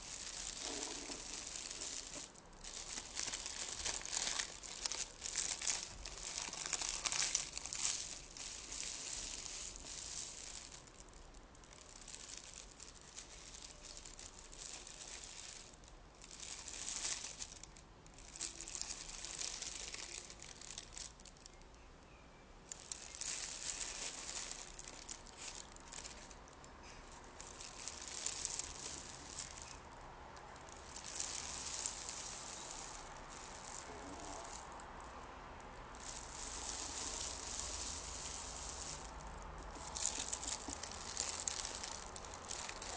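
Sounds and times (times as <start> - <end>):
paper crumpling: 0.0 - 21.3, 22.7 - 29.9, 30.7 - 35.0, 35.9 - 42.9.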